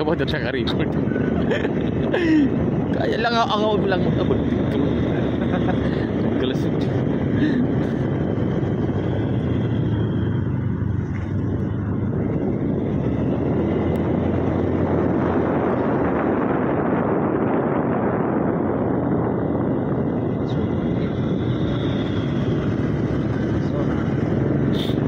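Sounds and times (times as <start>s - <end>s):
motorcycle engine humming: 0.0s - 25.0s
wind and road noise: 0.0s - 25.0s.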